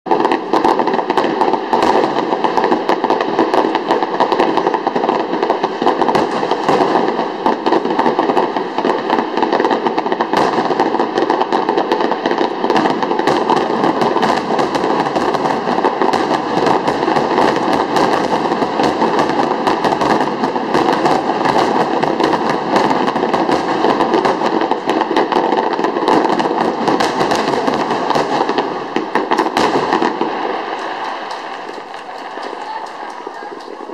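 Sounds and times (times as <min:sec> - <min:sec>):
fireworks bursts and crackling: 0:00.0 - 0:33.9.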